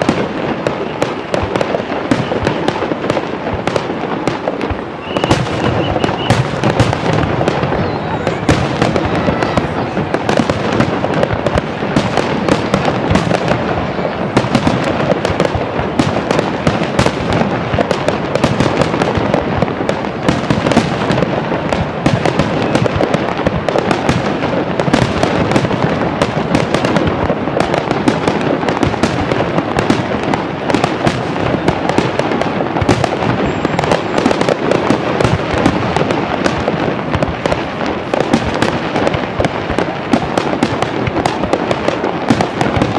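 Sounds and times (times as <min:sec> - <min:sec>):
fireworks bursting and crackling: 0:00.0 - 0:42.9.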